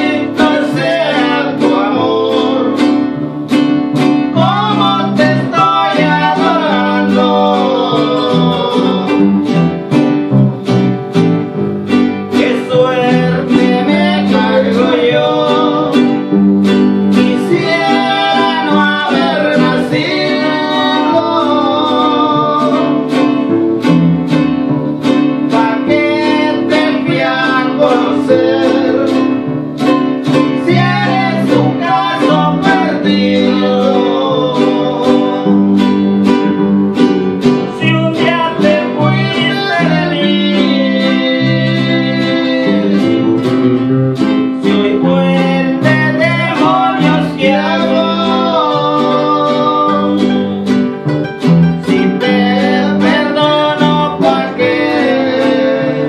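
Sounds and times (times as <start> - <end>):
man singing: 0.0 - 3.2, 4.0 - 9.7, 12.3 - 16.4, 17.1 - 23.5, 25.4 - 36.6, 37.7 - 50.8, 51.8 - 56.0
classical guitars strummed and picked: 0.0 - 56.0
electric bass line: 0.0 - 56.0.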